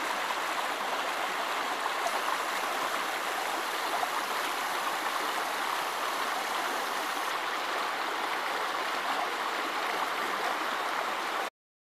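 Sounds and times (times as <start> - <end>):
brook running over rocks: 0.0 - 11.5.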